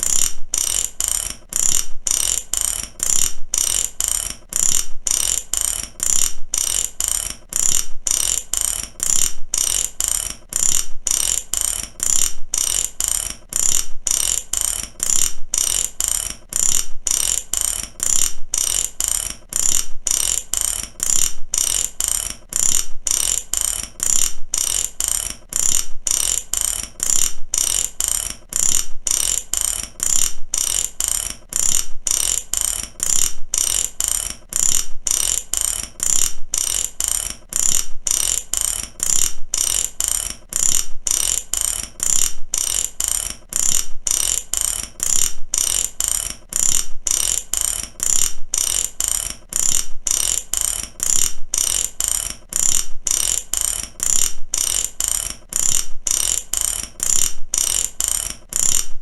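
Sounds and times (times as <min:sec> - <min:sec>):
mechanical ratchet clicking: 0:00.0 - 0:59.0.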